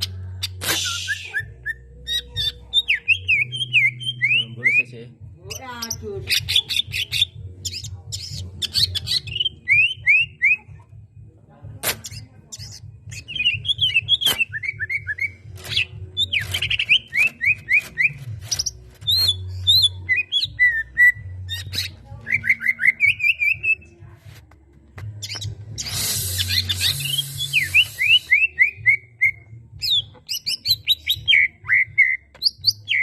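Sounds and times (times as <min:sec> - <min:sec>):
bird whistling song: 0:00.0 - 0:04.9, 0:05.5 - 0:10.7, 0:12.0 - 0:23.8, 0:25.2 - 0:33.0.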